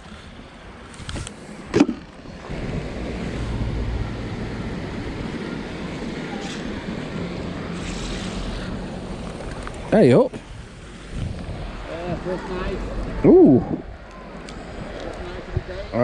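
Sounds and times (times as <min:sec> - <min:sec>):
steady low rumble: 0:02.4 - 0:15.8.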